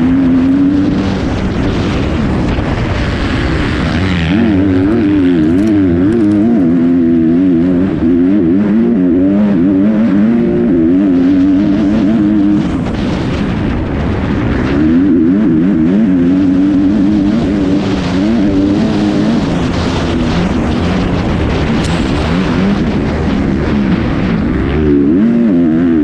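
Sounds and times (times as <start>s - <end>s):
motorbike engine revving: 0.0s - 26.0s
rushing wind and dirt: 0.0s - 26.0s.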